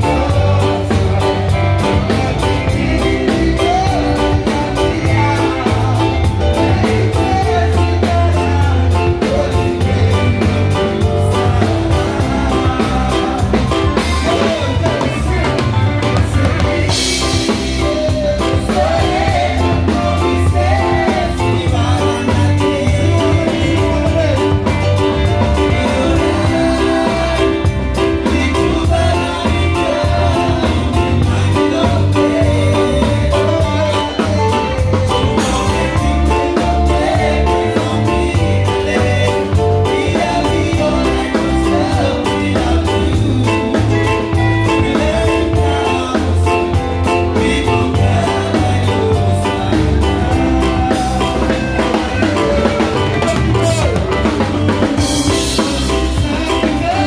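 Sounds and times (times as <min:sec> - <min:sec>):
drum kit and cymbals: 0:00.0 - 0:57.0
live band playing: 0:00.0 - 0:57.0.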